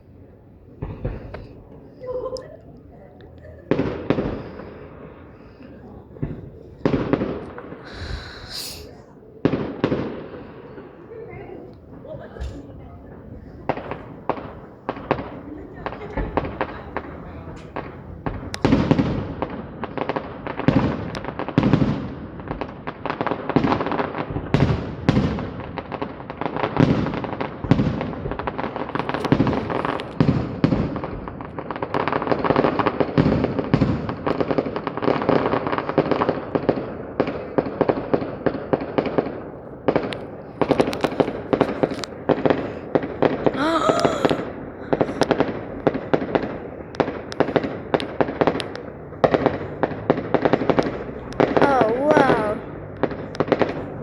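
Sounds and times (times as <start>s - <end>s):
fireworks crackling: 0.0s - 54.0s
fireworks bangs: 0.7s - 2.3s, 3.4s - 54.0s.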